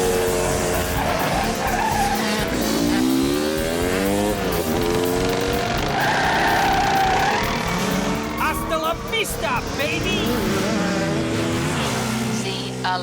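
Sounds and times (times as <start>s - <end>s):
music: 0.0s - 11.8s
motocross bike engines revving: 0.0s - 13.0s.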